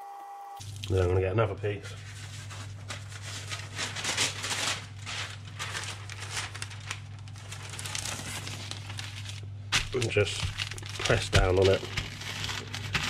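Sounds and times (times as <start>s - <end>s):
newspaper rustling and crinkling: 1.6s - 13.0s.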